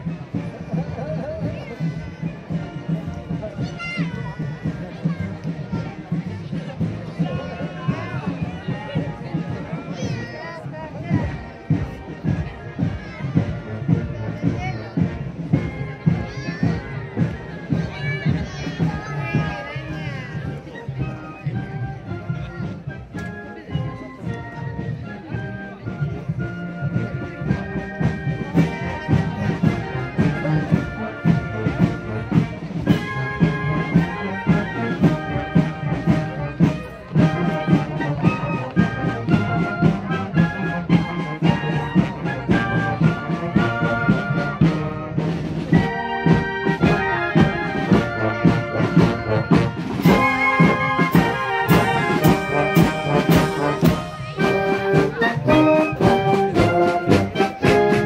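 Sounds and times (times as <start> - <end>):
marching wind band playing: 0.0 - 58.0
steady drum beat: 0.0 - 58.0.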